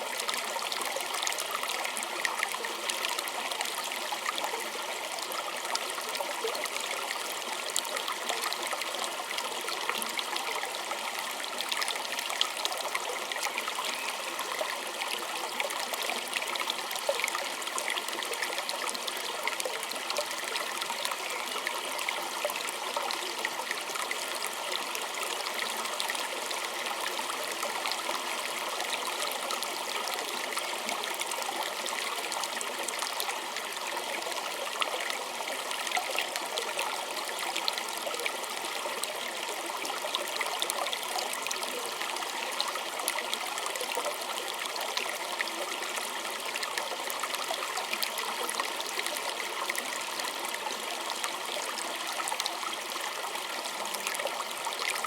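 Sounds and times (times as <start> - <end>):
small stream flowing: 0.0 - 55.0.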